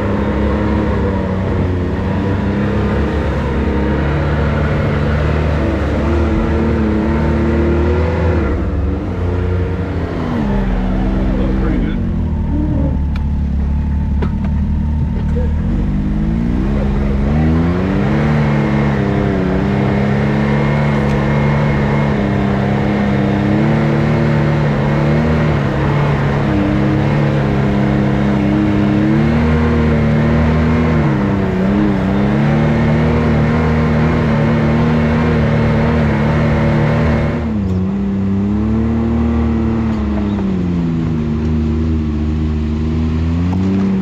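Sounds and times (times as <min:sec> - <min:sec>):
engine revving under load: 0:00.0 - 0:44.0.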